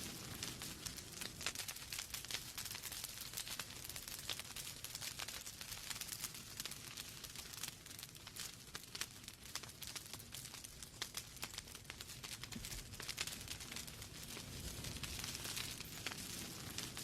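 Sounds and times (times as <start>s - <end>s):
log fire crackling and popping: 0.0s - 17.0s.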